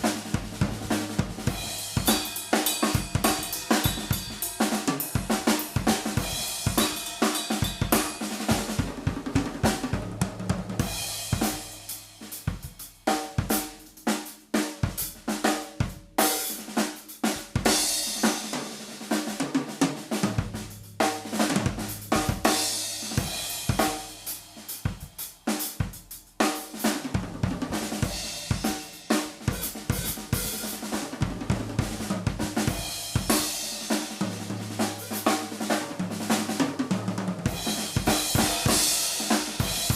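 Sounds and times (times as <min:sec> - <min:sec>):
drum kit playing: 0:00.0 - 0:39.9.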